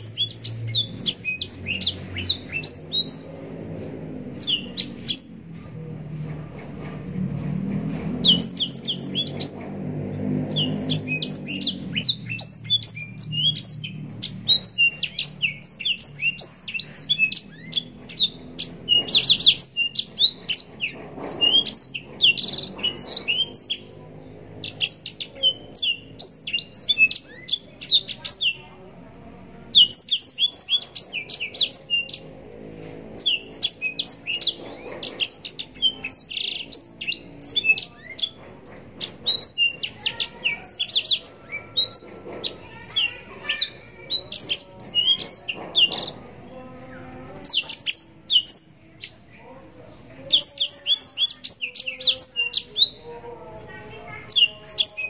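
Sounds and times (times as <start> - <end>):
canary singing trills and chirps: 0.0 - 5.6, 8.0 - 55.0.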